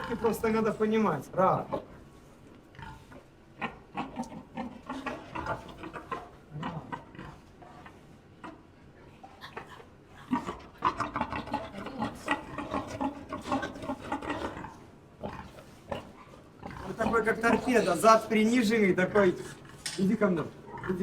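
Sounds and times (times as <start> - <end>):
wild boar grunting: 0.0 - 0.5, 2.8 - 8.6, 9.4 - 21.0.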